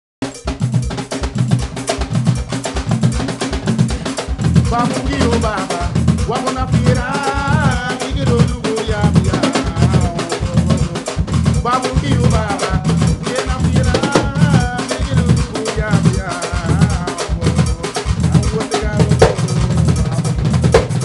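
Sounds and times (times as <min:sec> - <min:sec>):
hand drum beat: 0:00.2 - 0:21.0.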